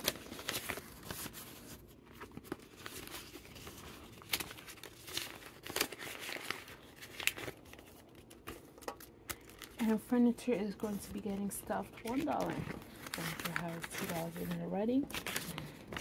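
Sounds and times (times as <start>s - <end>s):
paper bills and plastic pouch rustling: 0.0s - 16.0s.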